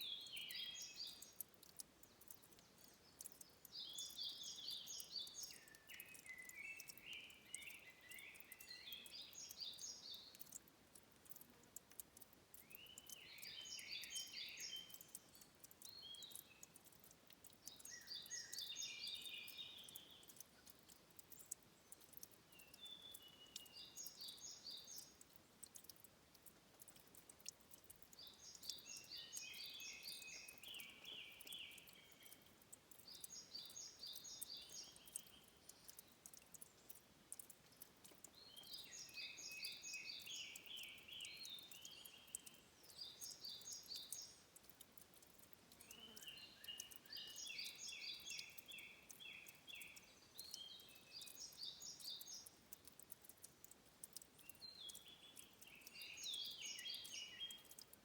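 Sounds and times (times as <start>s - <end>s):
songbird singing: 0.0s - 58.0s
trickling water with drips: 0.0s - 58.0s.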